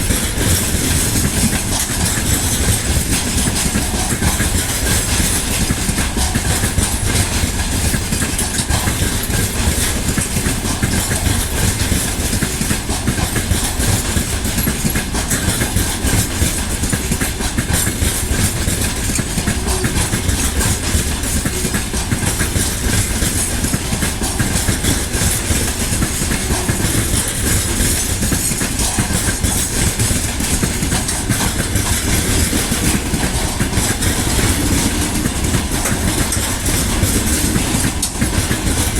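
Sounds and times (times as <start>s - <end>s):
freight train rumbling: 0.0s - 38.9s
rail noise: 0.0s - 38.9s.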